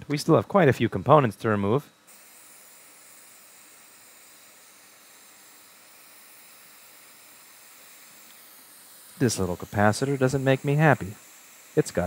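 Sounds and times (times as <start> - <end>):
faint air hiss: 0.0 - 12.0.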